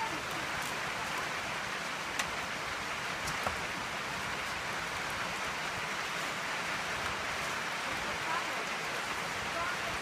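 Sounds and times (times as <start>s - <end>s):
steady rain-like hiss: 0.0s - 10.0s.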